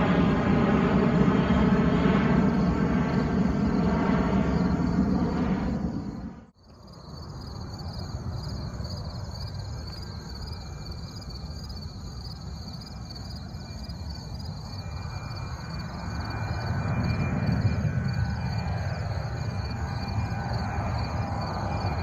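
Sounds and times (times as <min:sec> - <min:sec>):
jet engines rumbling overhead: 0:00.0 - 0:22.0.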